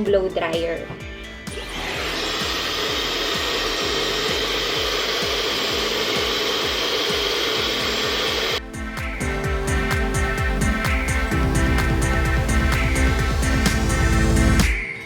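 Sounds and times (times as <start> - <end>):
music with steady beat: 0.0 - 15.0
blow dryer blowing: 1.5 - 14.8.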